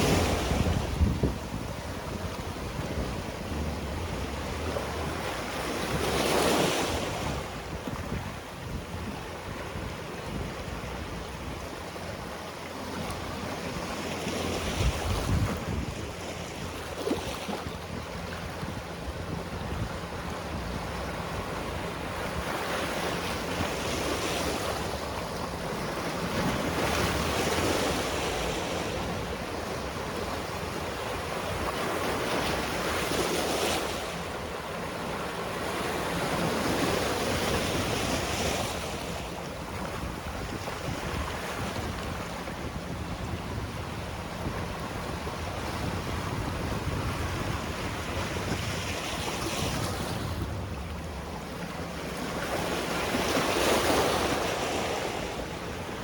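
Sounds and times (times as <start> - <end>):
sea waves washing onto shore: 0.0 - 56.0.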